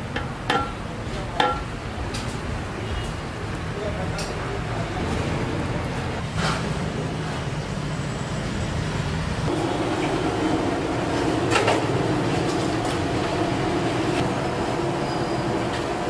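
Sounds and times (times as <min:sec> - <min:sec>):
rumbling kitchen noise: 0:00.0 - 0:16.0.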